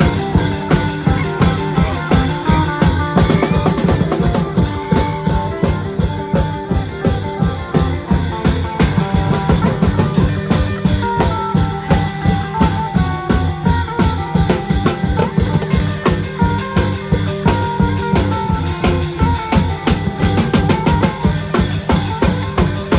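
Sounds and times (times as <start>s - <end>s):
long drums beating: 0.0s - 22.9s
plucked string melody: 0.0s - 22.9s.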